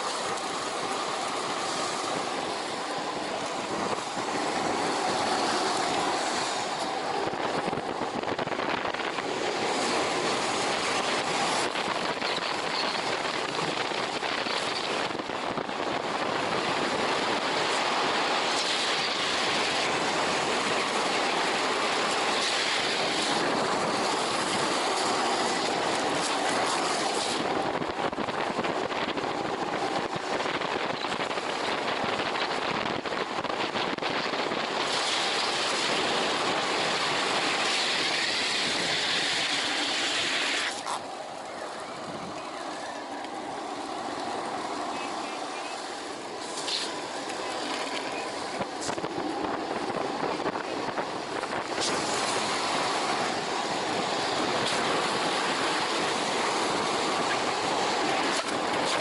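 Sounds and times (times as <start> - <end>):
wheels rolling fast on asphalt: 0.0 - 59.0
wind rushing over microphone: 0.0 - 59.0.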